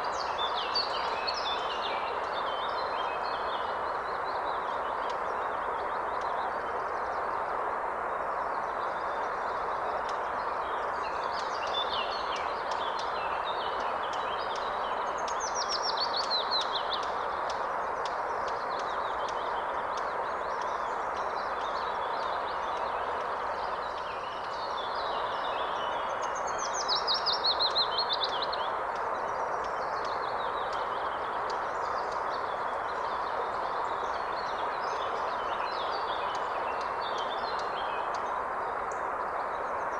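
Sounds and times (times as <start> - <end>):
songbirds singing: 0.0 - 7.6, 8.2 - 39.9.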